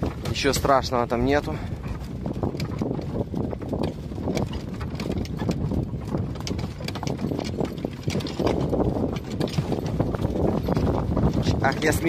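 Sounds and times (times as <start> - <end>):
horse hoofbeats: 0.0 - 12.0.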